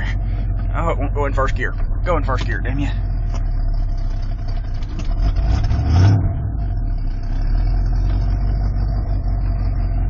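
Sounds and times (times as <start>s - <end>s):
truck engine rumbling at low revs: 0.0s - 10.0s.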